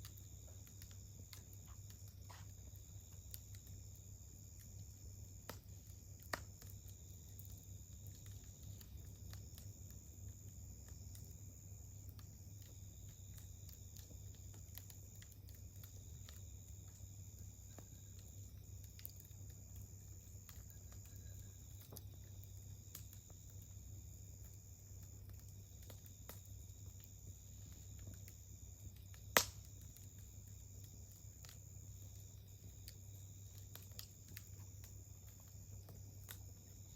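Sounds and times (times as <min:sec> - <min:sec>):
campfire crackles and pops: 0:00.0 - 0:36.9.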